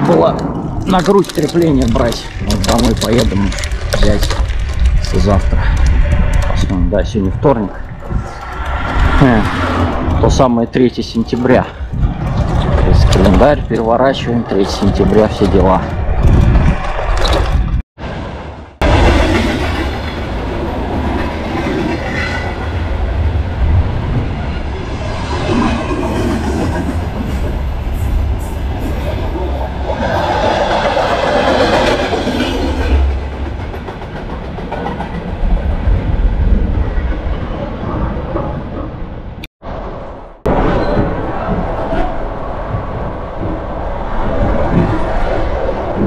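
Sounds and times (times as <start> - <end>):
train rumbling and rail clatter: 0.0 - 46.0.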